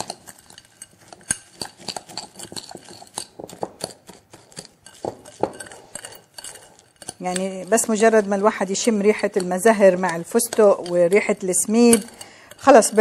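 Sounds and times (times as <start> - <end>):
nuts clicking against glass bowl: 0.0 - 13.0.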